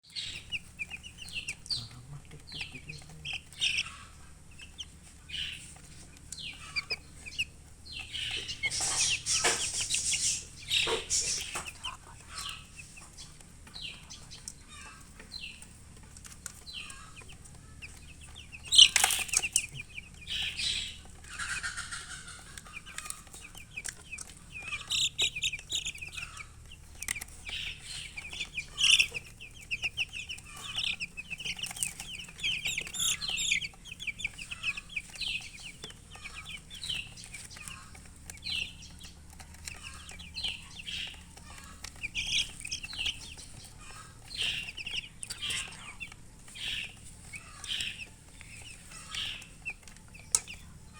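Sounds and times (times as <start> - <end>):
chicks cheeping: 0.0 - 50.9
hen clucking: 0.0 - 50.9.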